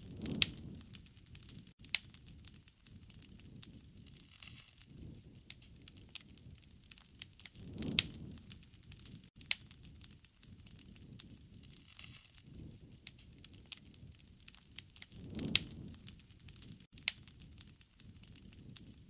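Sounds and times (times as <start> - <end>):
low rush of flame: 0.0 - 19.0
wood fire crackling: 0.0 - 19.0.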